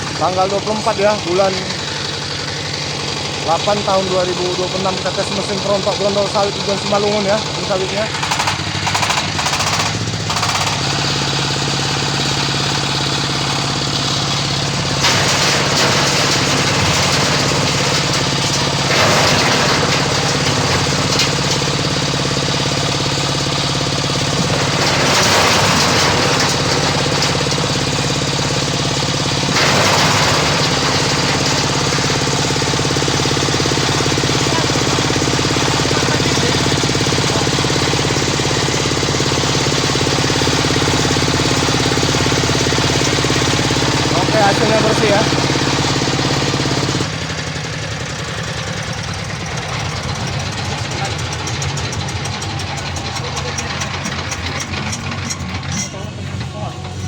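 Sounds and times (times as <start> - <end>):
thresher machine running: 0.0 - 57.0.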